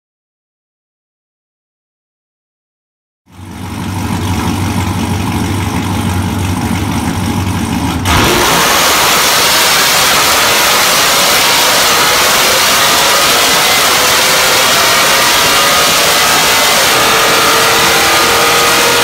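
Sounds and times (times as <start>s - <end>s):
truck engine revving: 3.4s - 19.0s.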